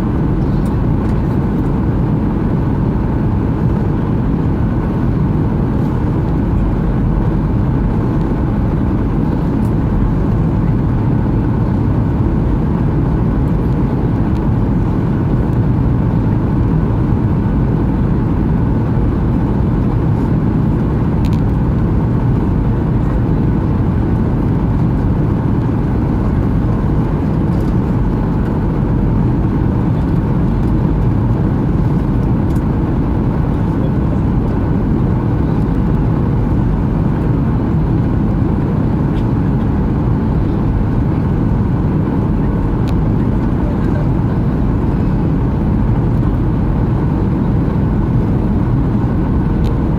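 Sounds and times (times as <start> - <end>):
airplane cabin rumble: 0.0 - 49.9.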